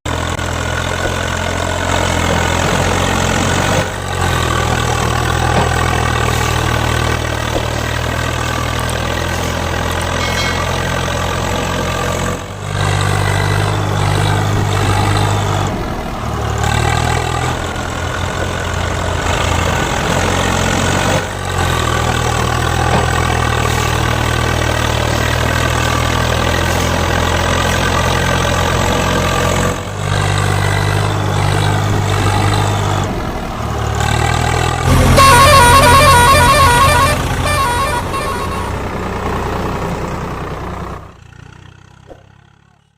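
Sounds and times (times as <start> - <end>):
tractor engine idling: 0.1 - 42.9.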